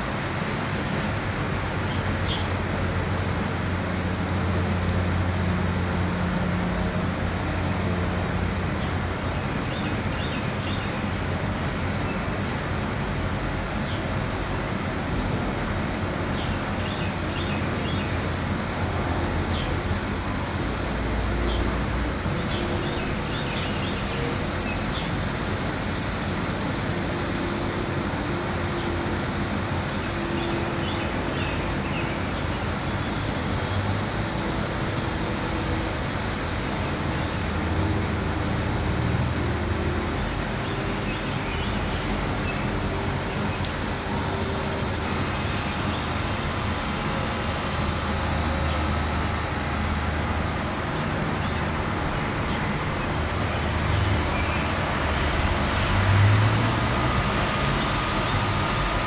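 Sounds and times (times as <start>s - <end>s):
distant road traffic rumble: 0.0s - 59.0s.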